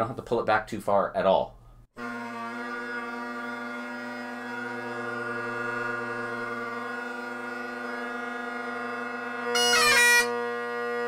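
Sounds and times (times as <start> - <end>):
bagpipe drones: 2.0 - 11.0
bagpipe grace notes: 2.0 - 11.0.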